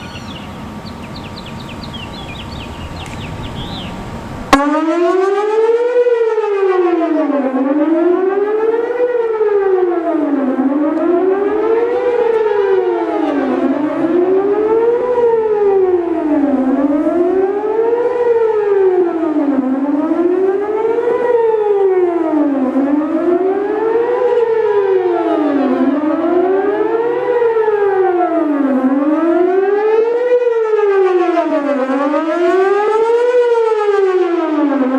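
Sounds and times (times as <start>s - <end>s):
tornado siren wailing: 0.0s - 34.9s.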